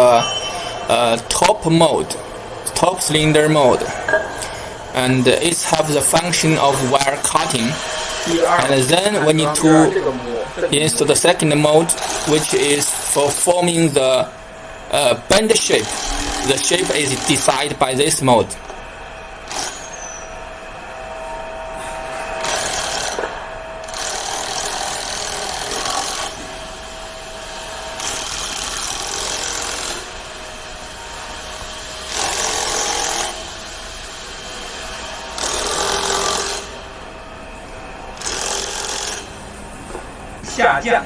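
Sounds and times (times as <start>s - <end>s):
power tool bursts: 0.0s - 41.0s.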